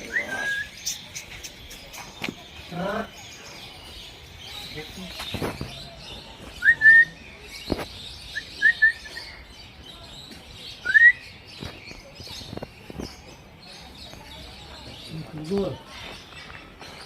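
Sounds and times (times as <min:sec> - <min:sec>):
chatter of many birds: 0:00.0 - 0:17.0.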